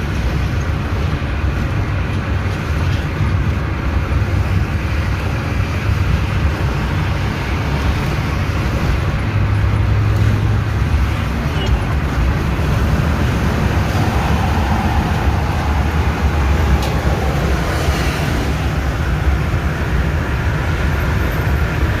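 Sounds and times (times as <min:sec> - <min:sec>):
diesel truck engine rumble: 0:00.0 - 0:22.0.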